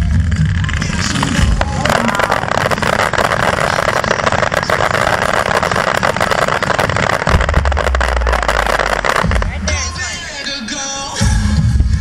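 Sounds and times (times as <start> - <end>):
low rumble of fireworks booms: 0.0 - 10.5
fireworks crackling: 0.0 - 11.8.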